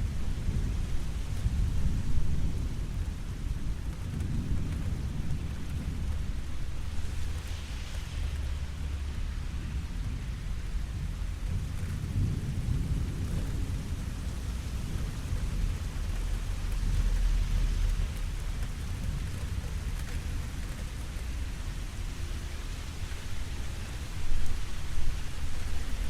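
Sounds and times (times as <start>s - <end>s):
steady rain falling: 0.0s - 26.0s
thunder rumbling: 0.0s - 26.0s.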